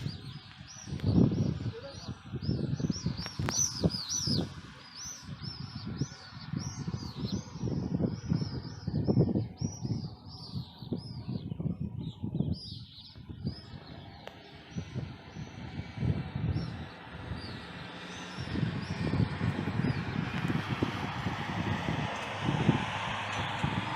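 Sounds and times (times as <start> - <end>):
low rumble in gusts: 0.0 - 23.9
small birds chirping: 0.0 - 23.9.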